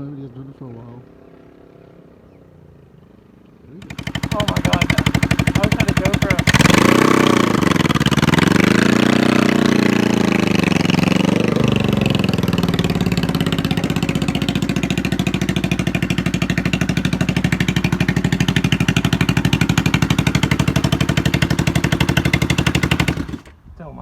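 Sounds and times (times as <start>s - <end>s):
motorcycle engine idling: 3.2s - 23.6s.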